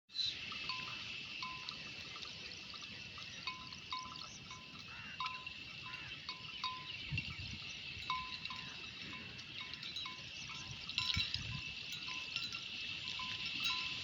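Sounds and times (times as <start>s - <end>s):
sheep bells clinking: 0.1s - 14.0s.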